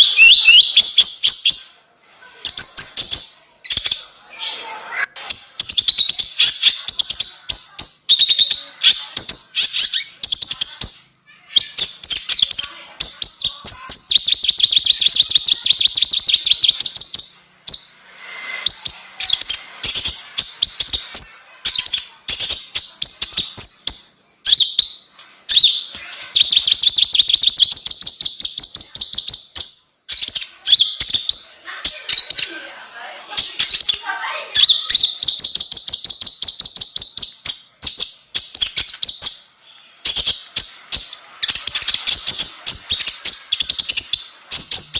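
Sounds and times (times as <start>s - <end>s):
sunbird chirping trills: 0.0s - 32.7s, 33.3s - 44.9s.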